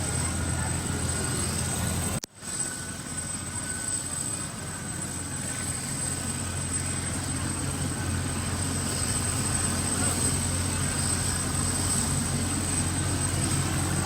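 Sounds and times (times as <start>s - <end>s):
helicopter engine droning: 0.0s - 14.0s.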